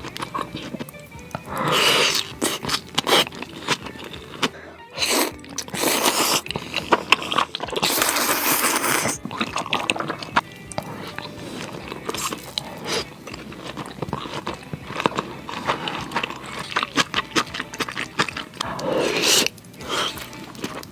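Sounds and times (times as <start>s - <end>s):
crunchy wet chewing: 0.0s - 20.9s.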